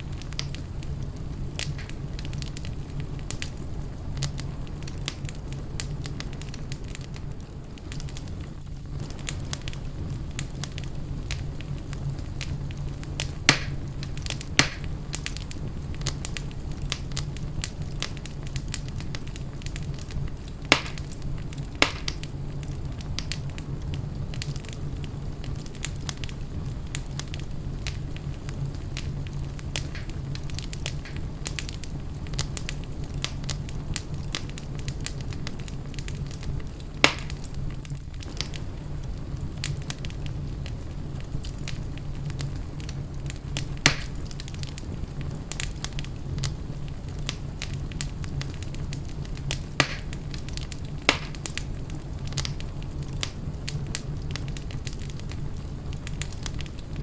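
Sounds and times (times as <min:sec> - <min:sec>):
fire crackling in fireplace: 0:00.0 - 0:57.0
fire sharp pops: 0:00.1 - 0:57.0.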